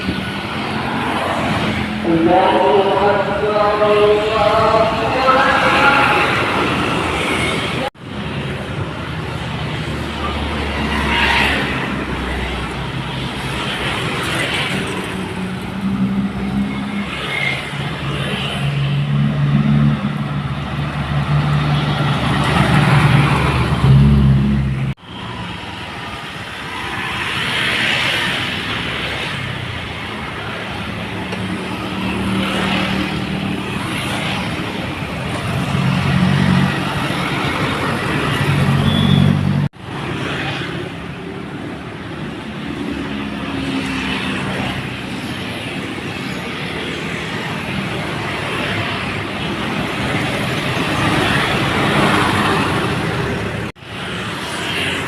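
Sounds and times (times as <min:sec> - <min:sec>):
dump trucks passing: 0:00.0 - 0:55.0.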